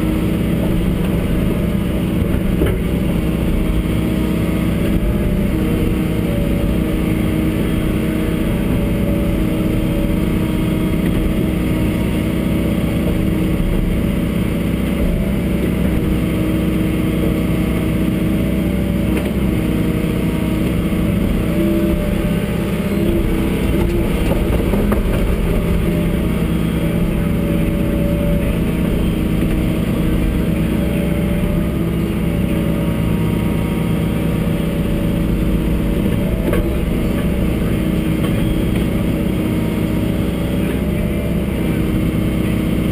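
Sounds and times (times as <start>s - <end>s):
excavator diesel engine running: 0.0s - 42.9s
hydraulics working: 0.0s - 42.9s.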